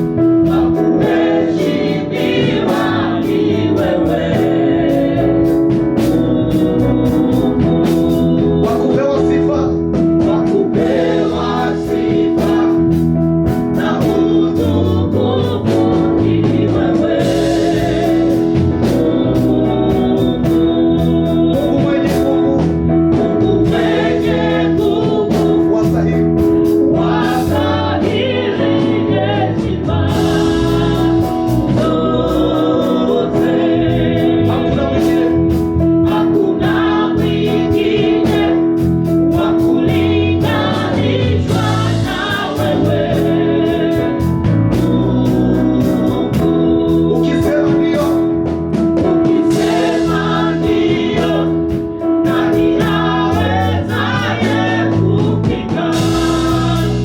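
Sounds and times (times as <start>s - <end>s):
steady drum beat: 0.0s - 57.0s
voices singing: 0.0s - 57.0s.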